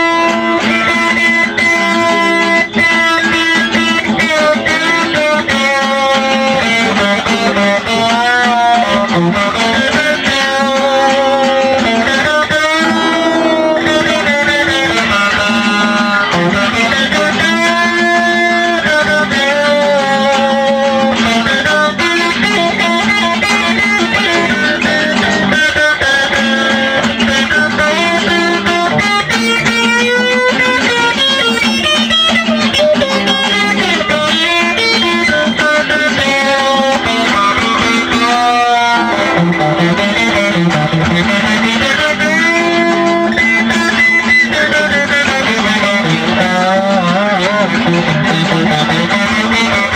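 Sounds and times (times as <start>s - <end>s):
electric guitar with bent notes: 0.0s - 49.9s.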